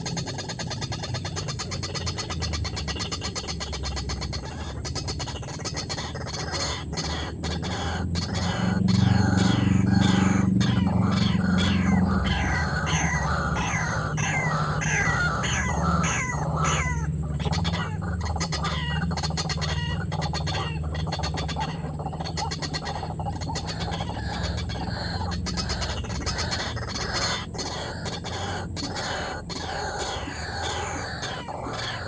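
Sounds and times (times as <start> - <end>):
bird calling with sliding notes: 0.0 - 32.0
steady low hum: 0.0 - 32.0.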